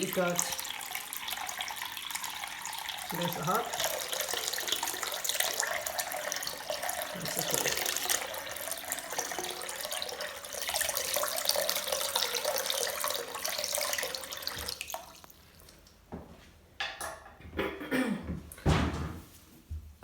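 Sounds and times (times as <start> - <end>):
tap water running into sink: 0.0 - 16.2.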